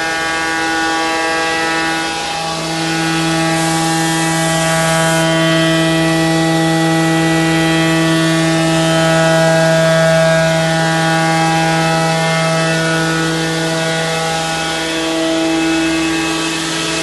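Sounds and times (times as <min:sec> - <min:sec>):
cnc router whining: 0:00.0 - 0:17.0.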